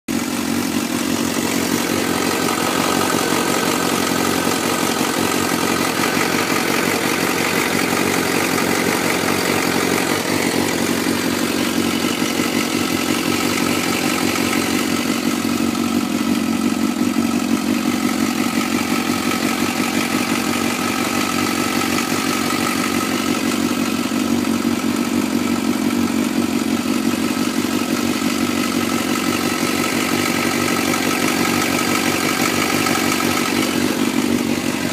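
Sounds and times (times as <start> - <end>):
engine ticking: 0.1 - 34.9
motorcycle engine idling: 0.1 - 34.9.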